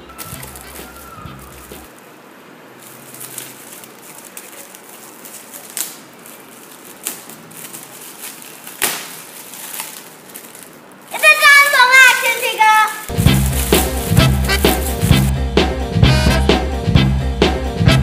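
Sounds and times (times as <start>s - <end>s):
foil gift bag crinkling: 0.0s - 15.3s.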